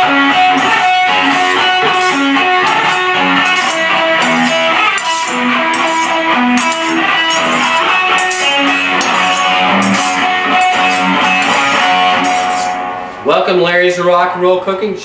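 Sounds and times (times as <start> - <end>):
electric guitar melody: 0.0 - 13.2.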